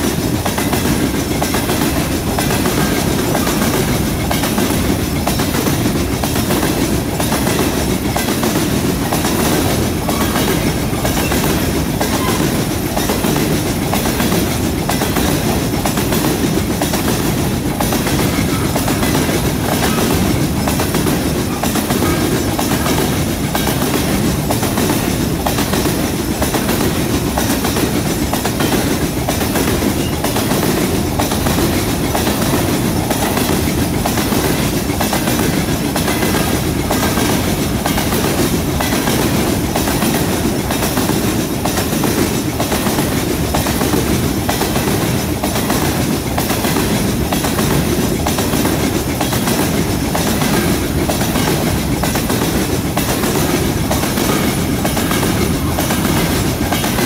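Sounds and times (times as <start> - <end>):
steel wheels on rails: 0.0 - 57.0
wheels clacking over rail joints: 0.0 - 57.0.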